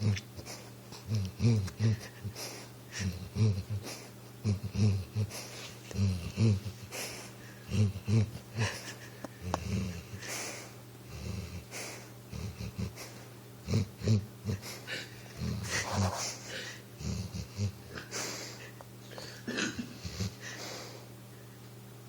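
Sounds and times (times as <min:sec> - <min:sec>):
dog snoring and wheezing: 0:00.0 - 0:21.0.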